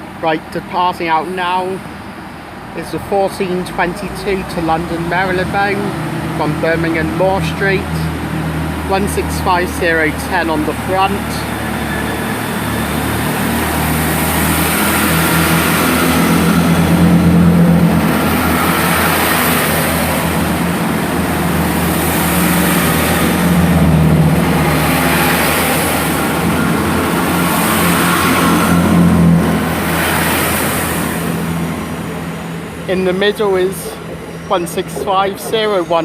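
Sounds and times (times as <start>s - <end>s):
diesel train accelerating: 0.0s - 36.0s.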